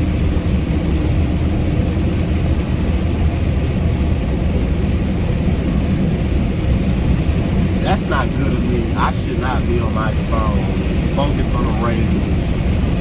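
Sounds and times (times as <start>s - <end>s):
truck engine and road drone: 0.0s - 13.0s.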